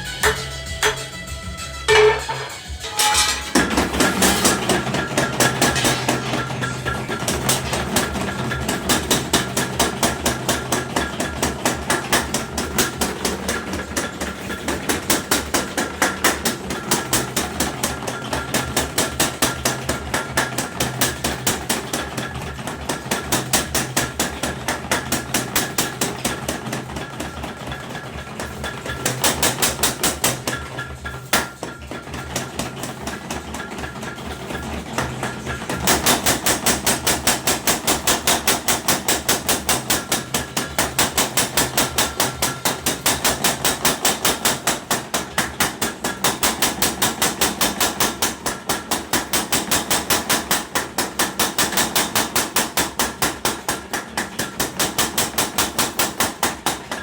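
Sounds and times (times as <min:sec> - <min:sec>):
power hammer pounding metal: 0:00.2 - 0:01.2, 0:01.9 - 0:57.0.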